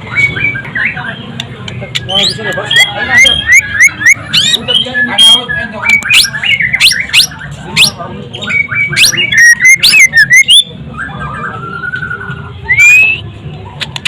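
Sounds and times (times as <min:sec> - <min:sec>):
bird singing whistles: 0:00.0 - 0:01.4, 0:02.0 - 0:13.3.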